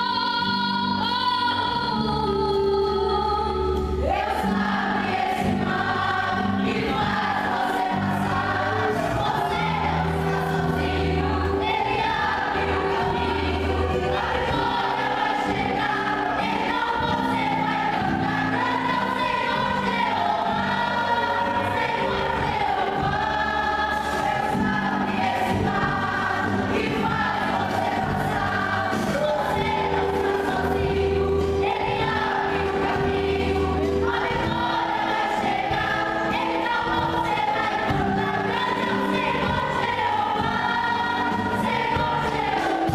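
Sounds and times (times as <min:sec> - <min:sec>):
vocal group singing: 0:00.0 - 0:42.9.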